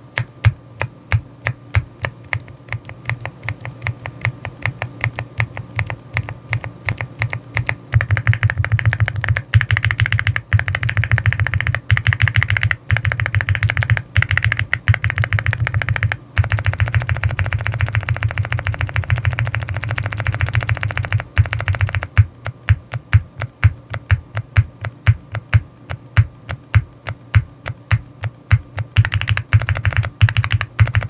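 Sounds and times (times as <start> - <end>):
mechanical keyboard typing: 0.0 - 31.0.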